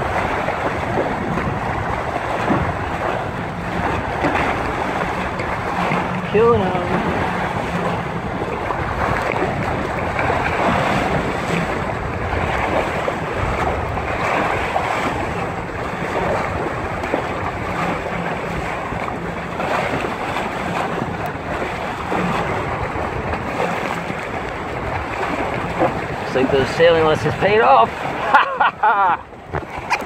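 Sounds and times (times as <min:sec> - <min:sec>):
water splashing over hull: 0:00.0 - 0:30.0
wind buffeting microphone: 0:00.0 - 0:30.0.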